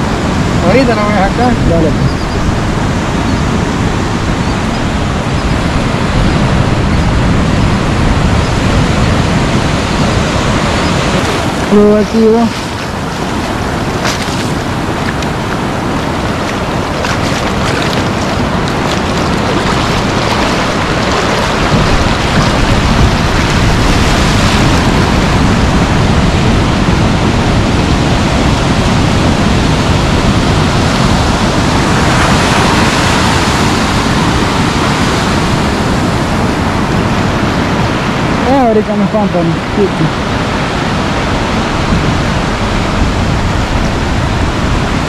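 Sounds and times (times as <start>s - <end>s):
waves breaking: 0.0s - 45.0s
wind rumble on microphone: 0.0s - 45.0s.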